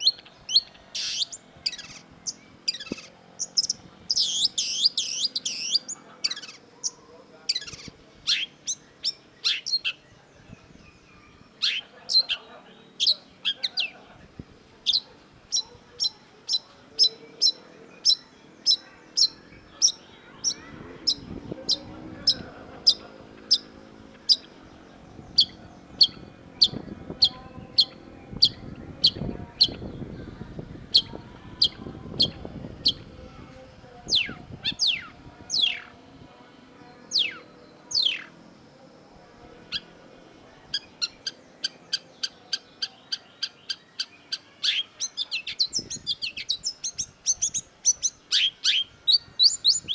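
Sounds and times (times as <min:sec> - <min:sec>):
downward-sweeping bird calls: 0:00.0 - 0:49.9.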